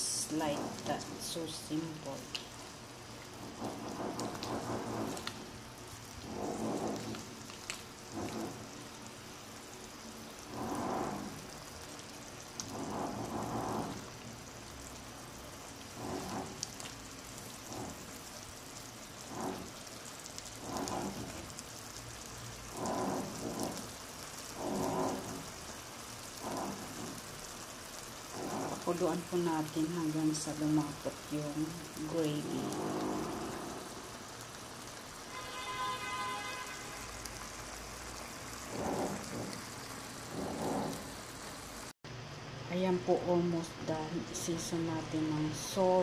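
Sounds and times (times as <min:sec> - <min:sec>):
curry simmering and crackling: 0:00.0 - 0:43.0.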